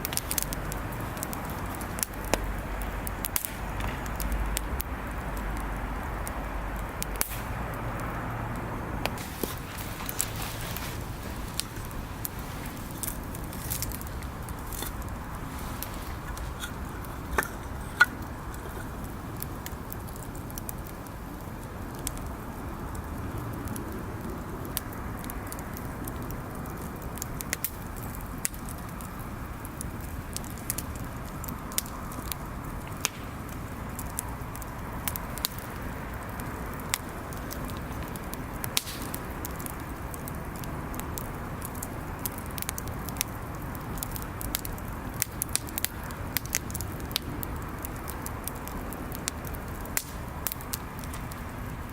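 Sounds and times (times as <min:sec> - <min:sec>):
bonfire flame rushing: 0:00.0 - 0:51.9
fire crackles and pops: 0:00.0 - 0:51.9.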